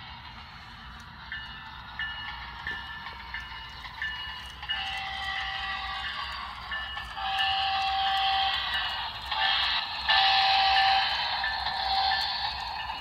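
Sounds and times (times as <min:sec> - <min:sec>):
rumble of running train: 0:00.0 - 0:13.0.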